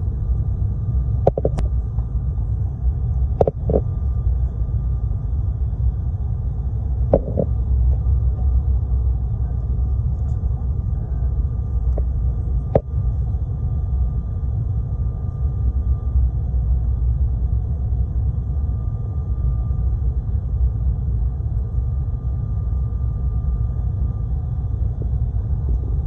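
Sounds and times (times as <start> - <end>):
airliner engines rumbling in cabin: 0.0 - 26.0
faint steady hum: 0.0 - 26.0.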